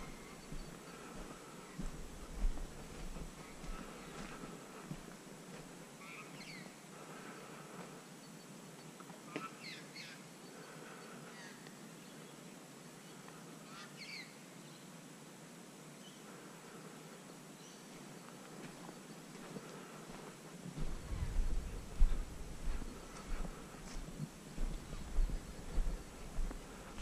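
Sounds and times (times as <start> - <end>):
faint hiss: 0.0 - 27.0.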